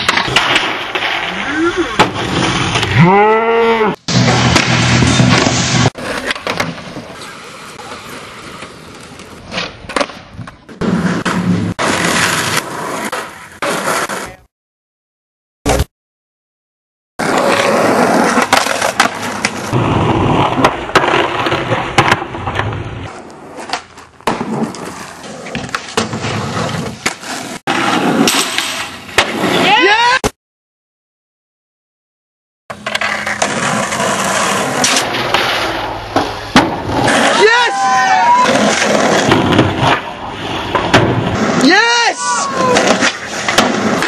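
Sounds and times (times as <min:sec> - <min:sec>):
skateboard wheels rolling on pavement: 0:00.0 - 0:03.0, 0:04.1 - 0:14.4, 0:17.2 - 0:29.9, 0:32.7 - 0:44.0.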